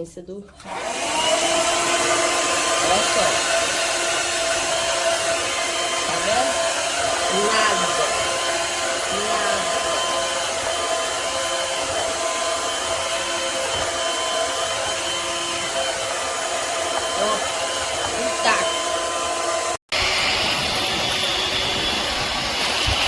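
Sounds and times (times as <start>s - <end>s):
vacuum cleaner running: 0.5s - 23.0s.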